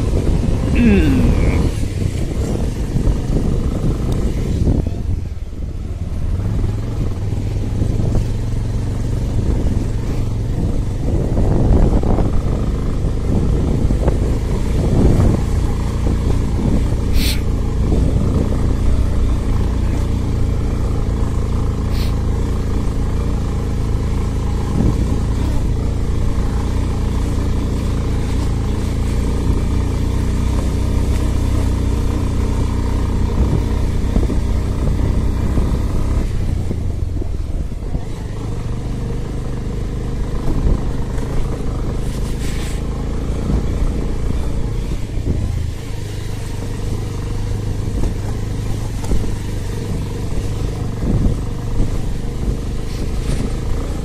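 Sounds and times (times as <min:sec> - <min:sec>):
motorcycle engine running: 0:00.0 - 0:54.0
rough road noise: 0:00.0 - 0:54.0.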